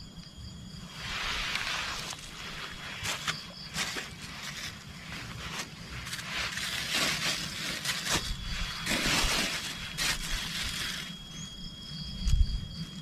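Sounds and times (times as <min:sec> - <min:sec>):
high-pitched insect tone: 0:00.0 - 0:13.0
low wind rumble: 0:00.0 - 0:13.0
rustling handling noise: 0:01.0 - 0:11.6.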